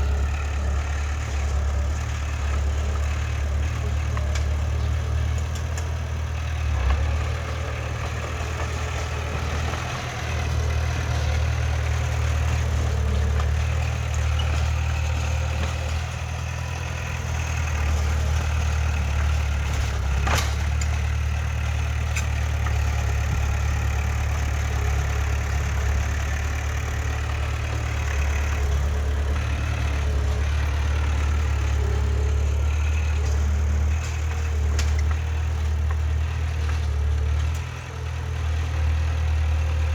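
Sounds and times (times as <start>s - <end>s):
heavy machine engine rumbling: 0.0s - 39.9s.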